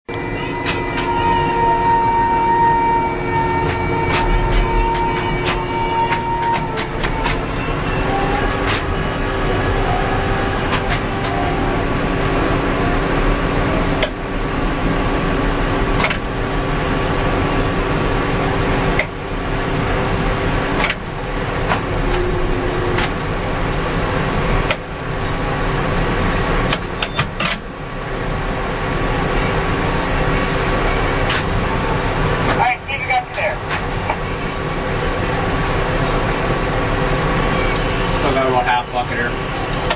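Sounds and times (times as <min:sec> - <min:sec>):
heavy machinery engine running: 0:00.1 - 0:39.9.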